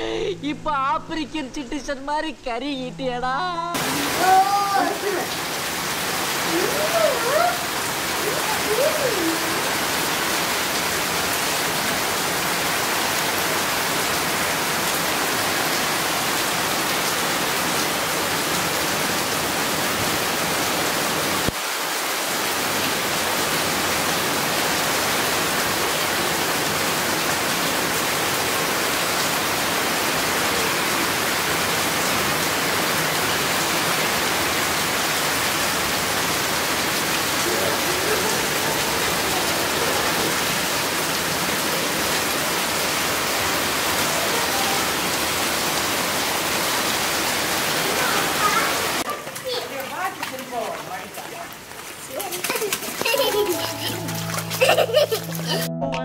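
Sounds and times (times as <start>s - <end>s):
heavy rain falling: 3.8s - 55.7s.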